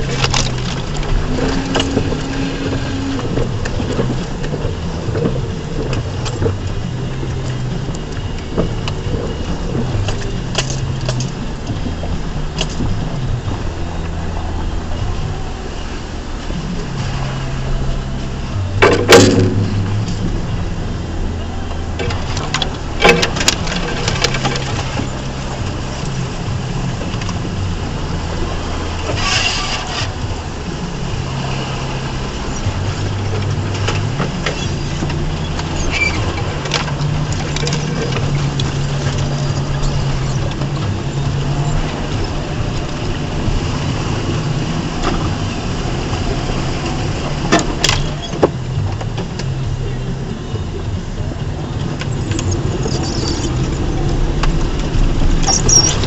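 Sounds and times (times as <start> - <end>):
truck engine at low revs: 0.0 - 56.0.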